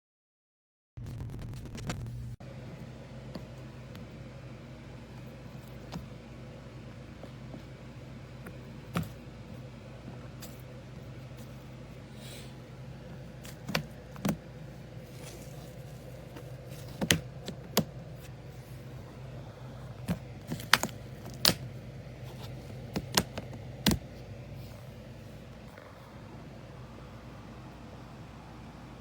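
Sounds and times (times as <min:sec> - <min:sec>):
low steady hum: 0:01.8 - 0:29.0.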